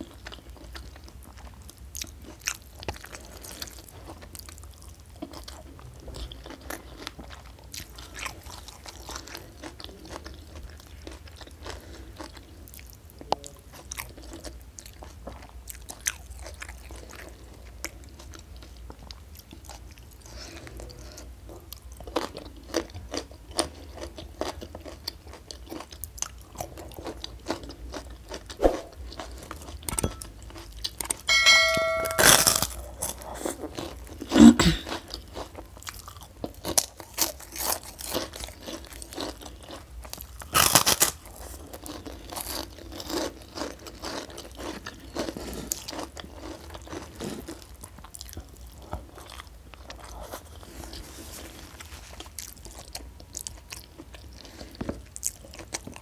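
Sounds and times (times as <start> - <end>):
chewing and crunching: 0.0 - 31.3, 32.6 - 56.0.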